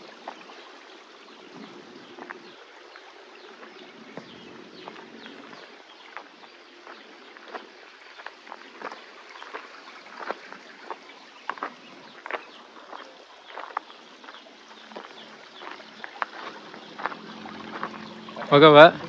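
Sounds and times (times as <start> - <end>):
footsteps on a path: 1.7 - 19.0.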